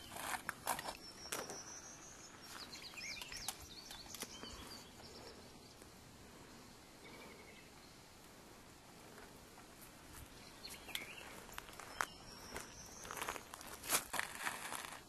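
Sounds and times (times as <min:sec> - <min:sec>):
faint bird chirping: 0:00.0 - 0:13.8.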